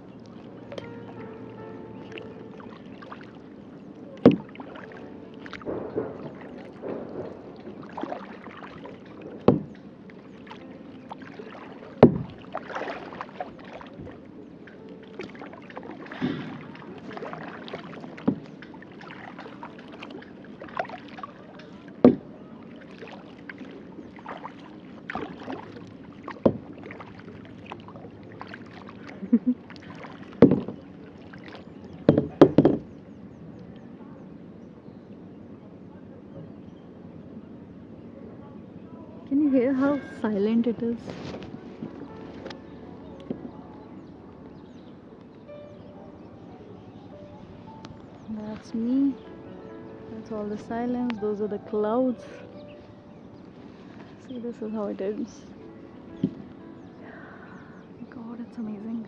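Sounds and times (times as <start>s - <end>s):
paddle splashing through water: 0.0s - 34.0s, 38.0s - 58.0s.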